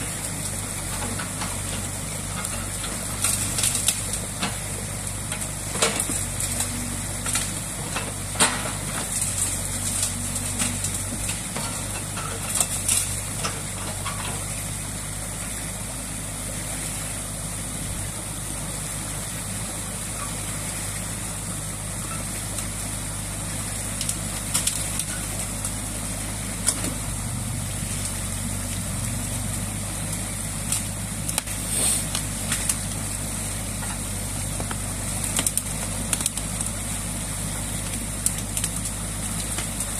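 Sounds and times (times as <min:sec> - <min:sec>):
excavator diesel engine running: 0:00.0 - 0:39.9
stream water rushing: 0:00.0 - 0:39.9.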